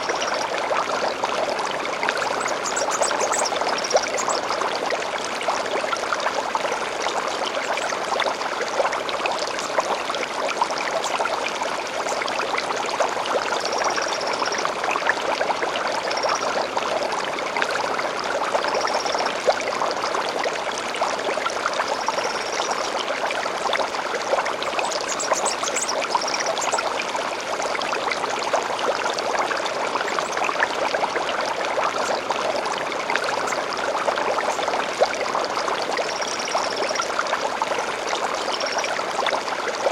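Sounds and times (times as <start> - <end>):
gentle stream flowing: 0.0 - 39.9.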